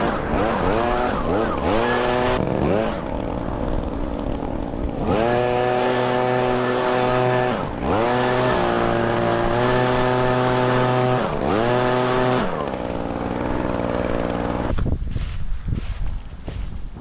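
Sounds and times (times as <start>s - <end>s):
leaf blower engine running: 0.0s - 16.6s.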